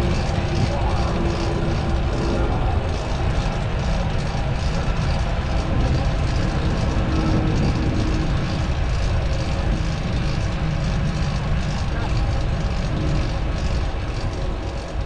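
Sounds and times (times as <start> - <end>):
traffic-like rumble: 0.0 - 15.0.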